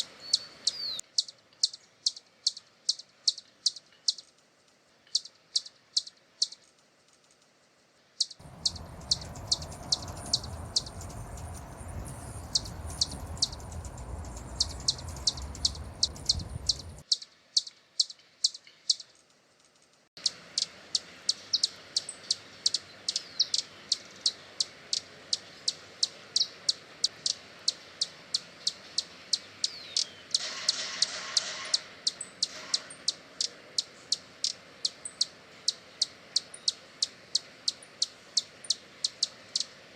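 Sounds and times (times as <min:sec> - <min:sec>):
hummingbird chip calls: 0:00.2 - 0:04.2, 0:08.2 - 0:17.2, 0:20.2 - 0:39.8.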